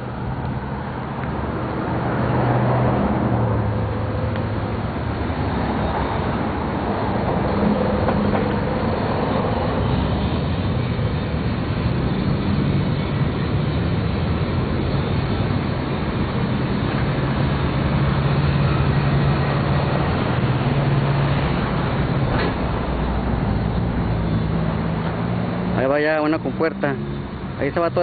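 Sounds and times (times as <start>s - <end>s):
continuous rushing noise: 0.0s - 28.0s.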